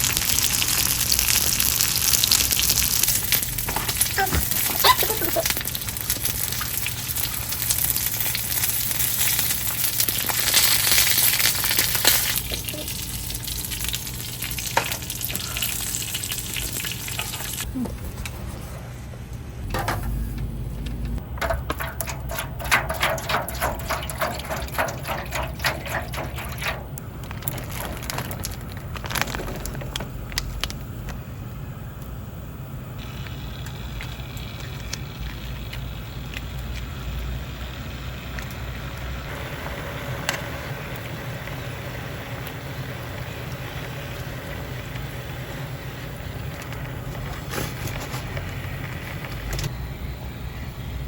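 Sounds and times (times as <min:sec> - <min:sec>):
food frying and sizzling: 0:00.0 - 0:17.8, 0:21.2 - 0:51.0.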